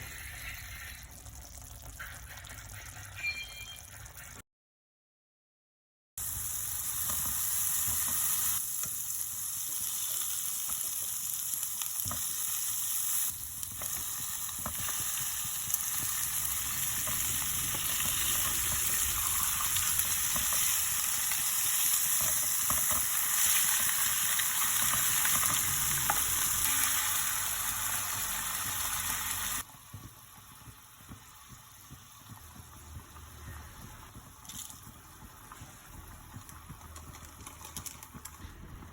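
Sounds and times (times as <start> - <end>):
food sizzling in hot oil: 6.2 - 38.4.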